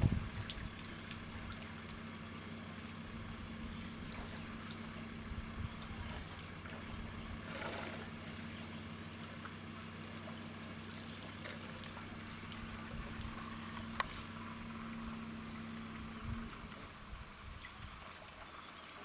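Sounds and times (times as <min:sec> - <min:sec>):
low mechanical hum: 0:00.0 - 0:19.0
water splashing and trickling: 0:00.0 - 0:19.0.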